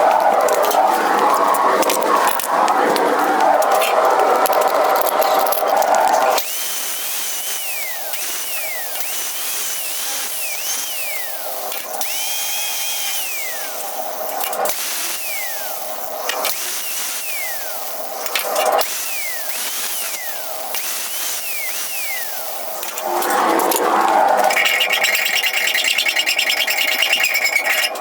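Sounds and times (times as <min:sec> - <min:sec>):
angle grinder whine: 0:00.0 - 0:28.0.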